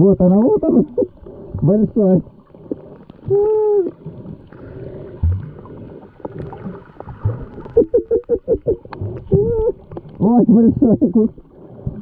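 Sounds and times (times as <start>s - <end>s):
water gurgles: 0.0s - 12.0s
water sloshing and bubbling: 0.0s - 12.0s.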